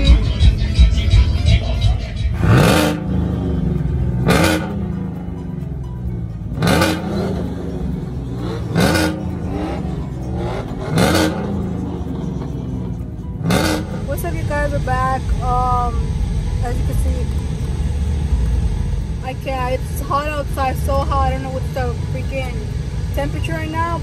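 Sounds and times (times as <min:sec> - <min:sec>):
music with stepping bass line: 0:00.0 - 0:24.0.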